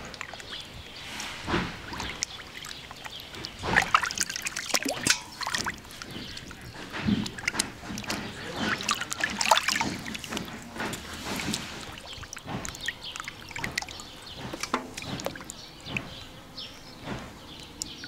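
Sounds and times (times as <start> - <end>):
water splashing and trickling: 0.0 - 18.0.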